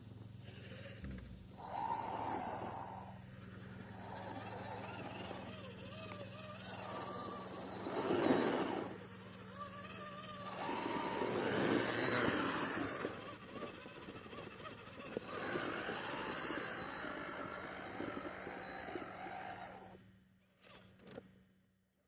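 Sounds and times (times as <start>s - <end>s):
electric motor and gearbox whining: 0.0s - 21.3s.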